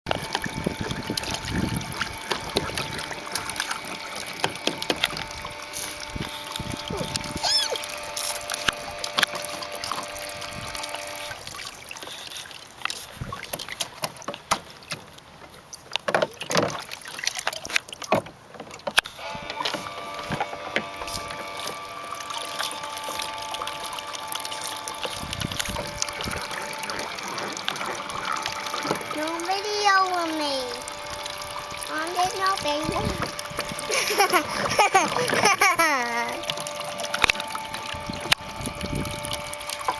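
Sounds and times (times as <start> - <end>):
water splashing: 0.1 - 39.9.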